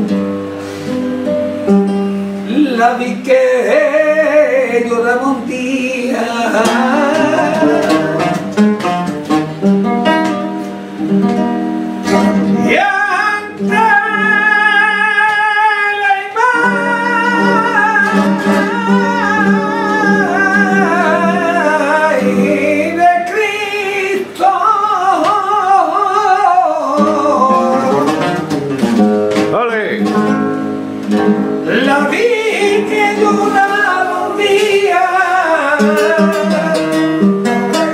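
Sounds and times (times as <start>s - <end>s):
spanish guitar: 0.0s - 37.9s
man singing flamenco: 2.4s - 10.6s, 12.0s - 37.9s.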